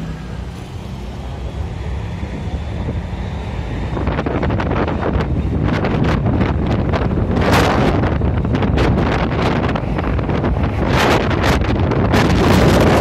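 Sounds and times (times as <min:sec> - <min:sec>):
low steady rumble: 0:00.0 - 0:13.0
wind buffeting microphone: 0:00.0 - 0:13.0.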